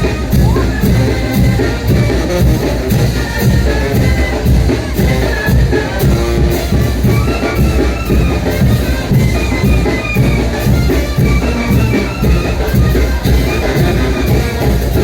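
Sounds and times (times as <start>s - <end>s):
brass band melody: 0.0s - 15.0s
steady drum beat: 0.0s - 15.0s.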